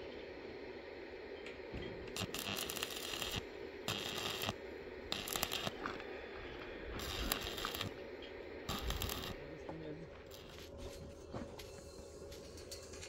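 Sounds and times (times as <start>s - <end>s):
welding arc crackling and sizzling: 0.0s - 13.0s.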